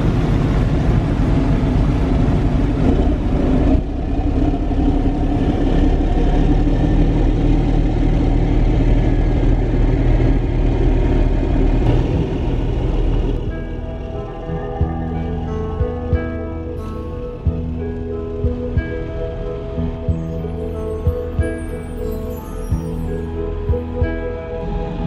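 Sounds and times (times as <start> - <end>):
ferry diesel engines rumbling: 0.0 - 25.0.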